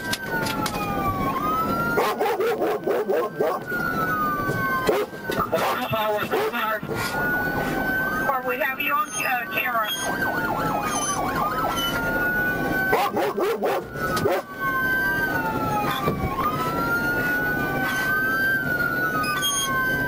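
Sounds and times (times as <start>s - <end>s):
police sirens wailing: 0.0s - 20.0s
siren yelp: 0.0s - 20.0s.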